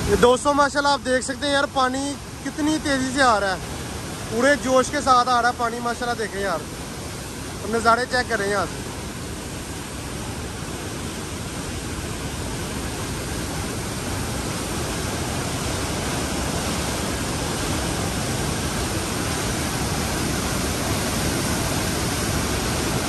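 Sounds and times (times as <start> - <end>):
white water rushing: 0.0 - 23.0.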